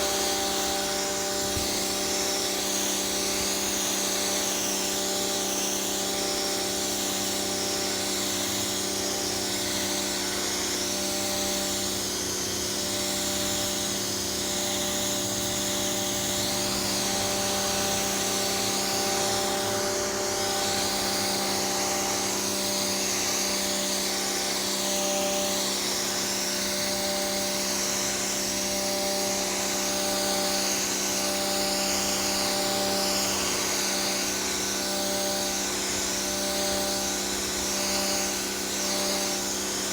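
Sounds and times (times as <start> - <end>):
pressure washer motor humming: 0.0 - 39.9.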